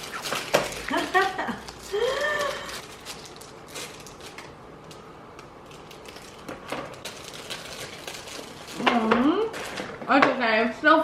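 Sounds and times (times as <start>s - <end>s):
wrappers torn and crinkled: 0.0s - 5.0s, 5.6s - 9.9s.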